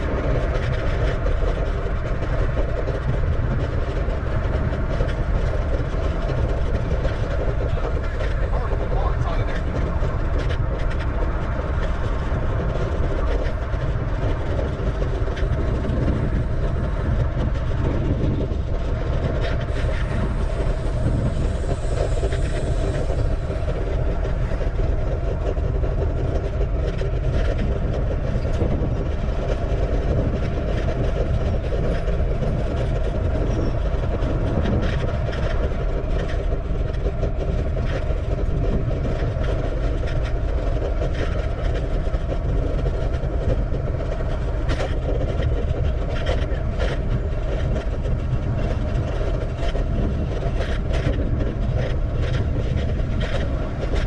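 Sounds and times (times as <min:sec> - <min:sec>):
bicycle road rumble: 0:00.0 - 0:54.0
wind on microphone: 0:00.0 - 0:54.0.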